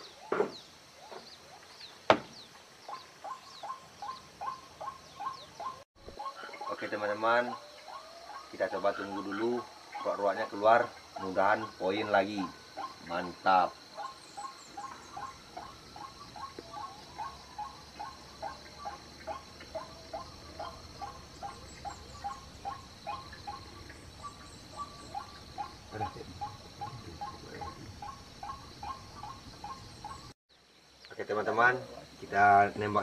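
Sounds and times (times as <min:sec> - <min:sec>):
waterhen calling: 0:02.8 - 0:30.3.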